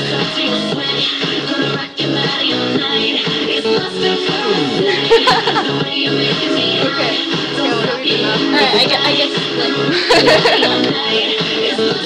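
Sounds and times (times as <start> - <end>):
pop song with sung vocals: 0.0 - 12.0.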